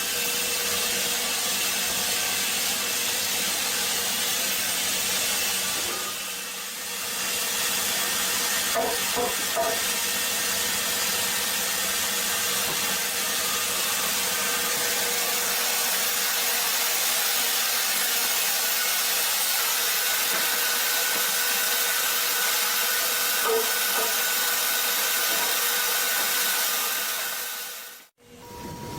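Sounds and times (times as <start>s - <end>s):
saw cutting through wood: 0.0s - 28.1s.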